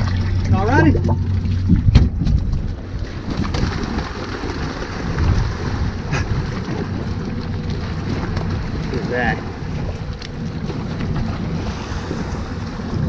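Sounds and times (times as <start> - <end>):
water washing: 0.0 - 13.0
wind buffeting microphone: 0.0 - 13.0.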